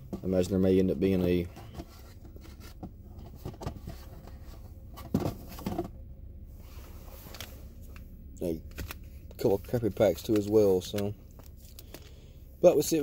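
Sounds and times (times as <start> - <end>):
faint rustles and clicks: 0.0 - 12.5
vehicle interior hum: 0.0 - 13.0.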